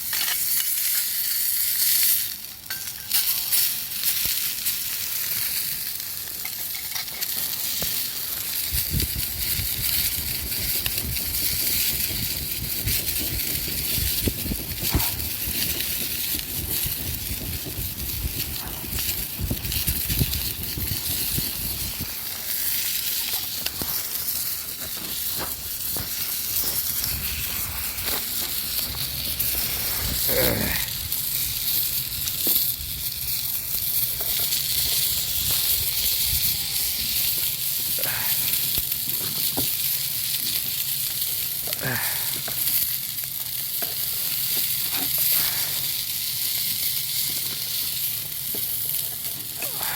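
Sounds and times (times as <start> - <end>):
campfire hissing and sizzling: 0.0 - 49.9
fire crackles and pops: 0.0 - 49.9.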